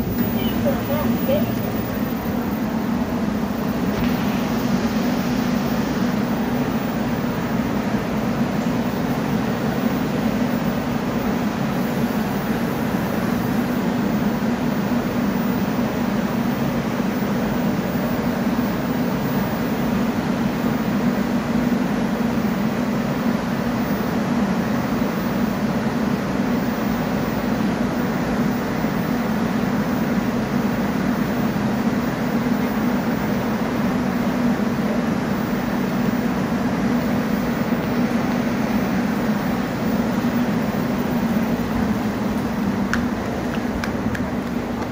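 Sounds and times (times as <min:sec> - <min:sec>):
electric train humming: 0:00.0 - 0:44.9.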